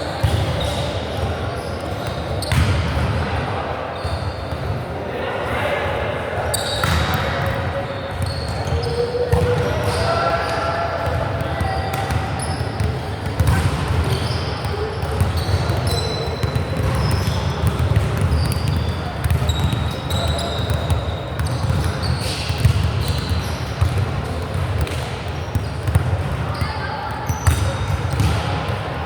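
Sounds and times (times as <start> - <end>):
sneakers squeaking on court: 0.0 - 3.2, 4.0 - 4.8, 6.5 - 29.0
voices echoing in gym: 0.0 - 29.0.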